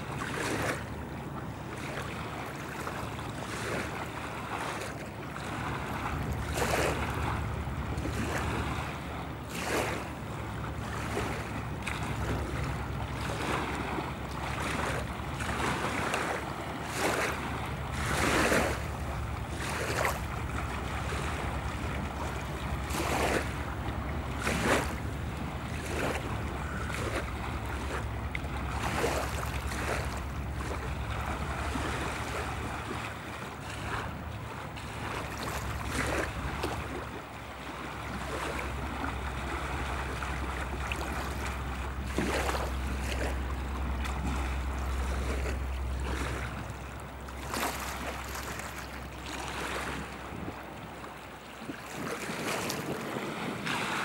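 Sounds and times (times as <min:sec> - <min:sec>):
river water splashing and lapping: 0:00.0 - 0:54.0
wind rumble on microphone: 0:00.0 - 0:54.0.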